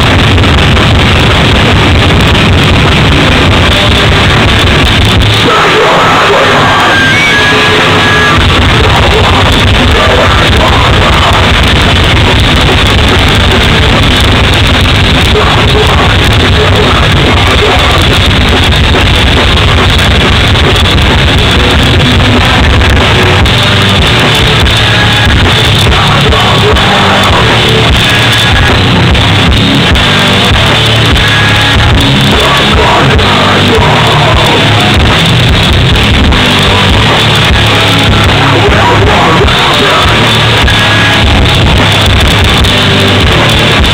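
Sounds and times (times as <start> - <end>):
hardcore band playing live: 0.0 - 43.9
vocalist singing and shouting: 3.0 - 42.2.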